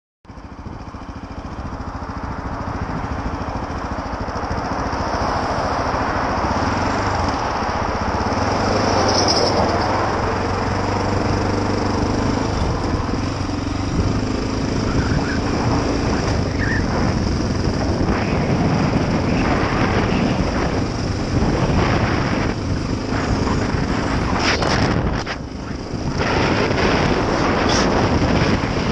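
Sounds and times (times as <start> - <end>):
motorcycle engine accelerating: 0.3 - 28.9
wind noise on microphone: 0.4 - 28.9.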